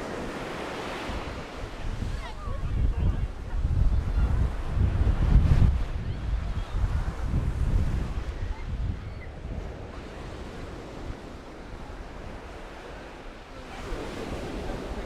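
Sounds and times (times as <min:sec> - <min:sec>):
surf washing on sandy beach: 0:00.0 - 0:15.0
wind buffeting microphone: 0:00.0 - 0:15.0.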